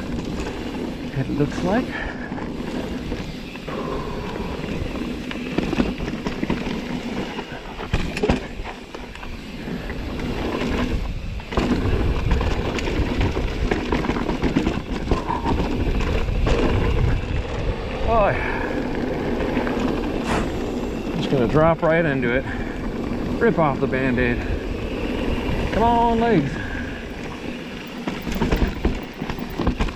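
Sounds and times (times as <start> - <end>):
bike rattling over bumps: 0.0 - 29.9
bike tyres on dirt: 0.0 - 29.9
wind buffeting microphone: 0.0 - 29.9.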